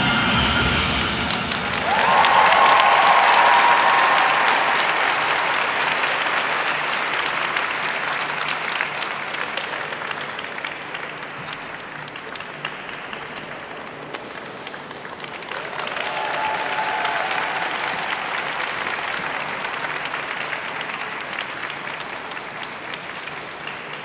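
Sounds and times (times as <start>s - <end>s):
crowd applauding: 1.1s - 24.0s.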